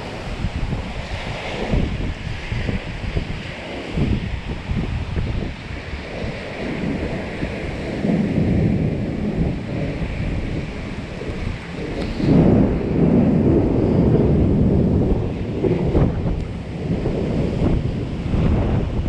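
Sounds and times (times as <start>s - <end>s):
thunder rumbling: 0.0s - 19.0s
wind buffeting microphone: 0.0s - 19.0s.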